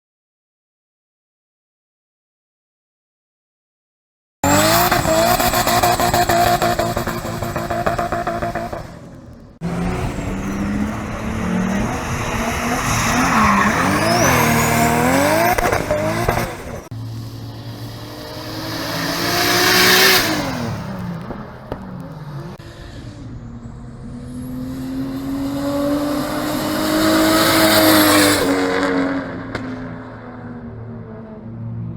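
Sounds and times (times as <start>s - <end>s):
cars driving past: 4.4s - 31.9s
engines revving: 4.4s - 31.9s.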